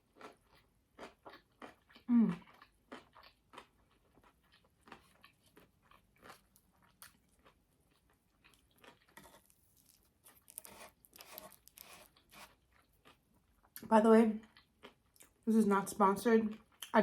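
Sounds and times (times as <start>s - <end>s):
chewing crunchy food: 0.0s - 15.5s, 16.4s - 17.0s.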